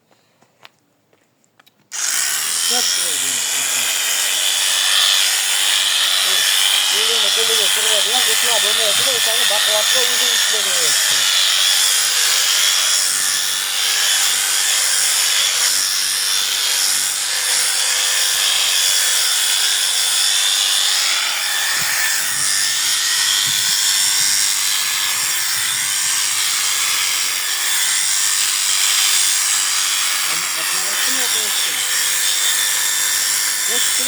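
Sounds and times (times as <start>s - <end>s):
blades cutting fleece: 1.9s - 34.0s
electric sheep shears whining: 1.9s - 34.0s.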